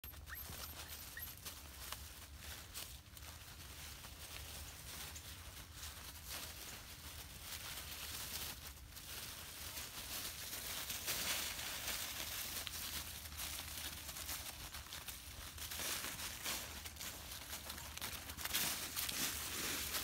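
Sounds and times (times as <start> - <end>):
dry leaves rustling and crunching: 0.2 - 20.0.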